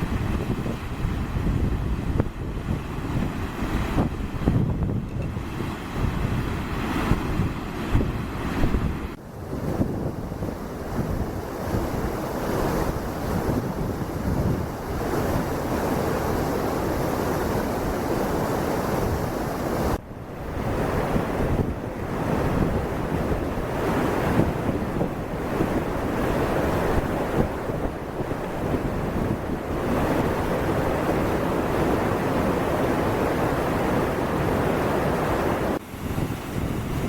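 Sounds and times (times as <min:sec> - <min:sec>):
rushing water roar: 0:00.0 - 0:37.0
wind buffeting microphone: 0:00.0 - 0:37.0.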